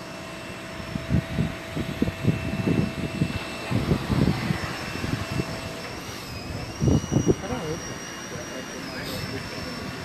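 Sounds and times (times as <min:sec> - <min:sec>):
faint street hum: 0:00.0 - 0:10.0
wind buffeting microphone: 0:00.6 - 0:10.0.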